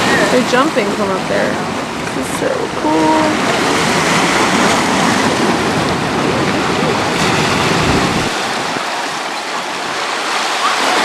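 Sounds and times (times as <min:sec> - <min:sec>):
wind buffeting microphone: 0:00.0 - 0:10.5
sea water surging among rocks: 0:00.0 - 0:11.0.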